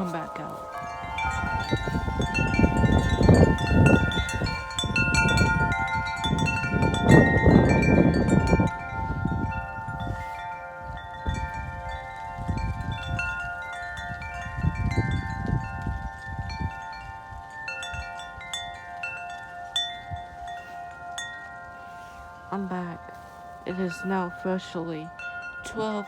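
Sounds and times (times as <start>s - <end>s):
wind chimes ringing: 0.0s - 26.0s
wind rumble on microphone: 0.0s - 26.0s.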